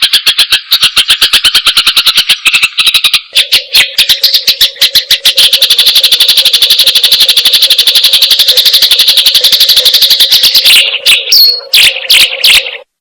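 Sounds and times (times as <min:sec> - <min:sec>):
songbird chirping rapidly: 0:00.0 - 0:13.0.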